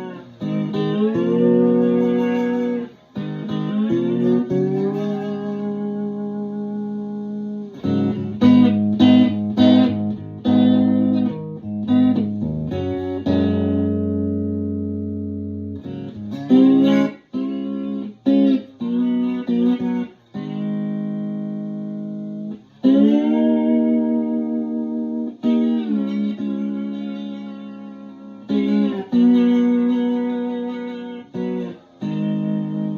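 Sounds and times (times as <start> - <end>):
electric guitar arpeggios: 0.0 - 32.9.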